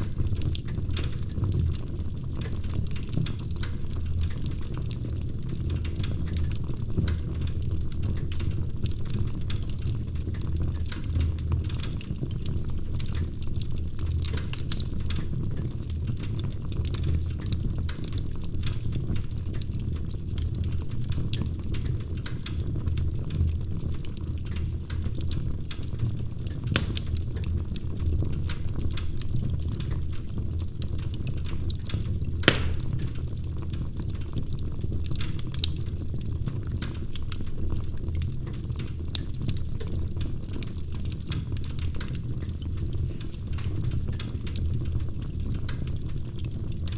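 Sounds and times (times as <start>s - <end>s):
low rumble of fire: 0.0s - 46.9s
wood fire crackling and popping: 0.0s - 46.9s.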